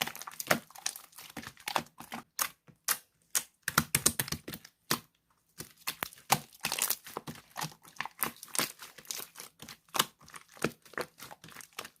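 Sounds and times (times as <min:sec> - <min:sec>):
slime crackling and popping: 0:00.0 - 0:05.0, 0:05.6 - 0:12.0.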